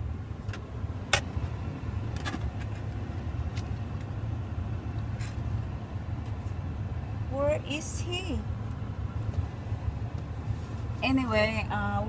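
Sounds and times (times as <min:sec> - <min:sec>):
low rumble inside truck cab: 0:00.0 - 0:12.0.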